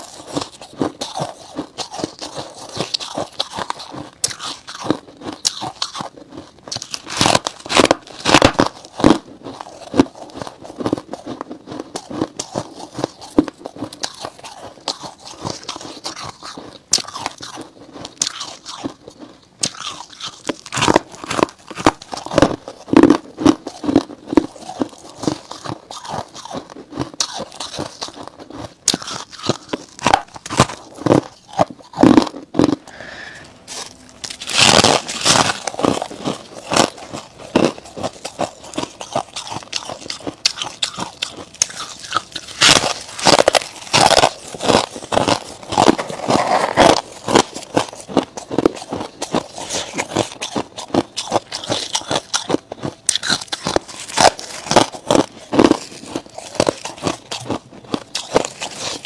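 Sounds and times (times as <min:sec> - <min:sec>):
frost crunching when chewed: 0:00.0 - 0:59.0.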